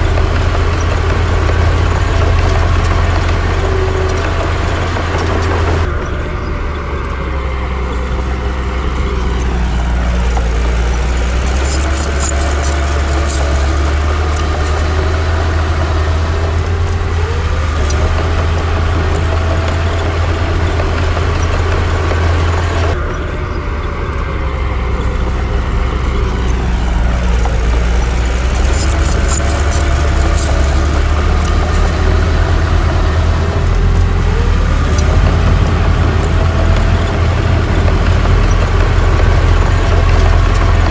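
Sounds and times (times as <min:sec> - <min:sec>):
diesel engine rumbling: 0:00.0 - 0:40.9
metallic clicks: 0:00.0 - 0:40.9.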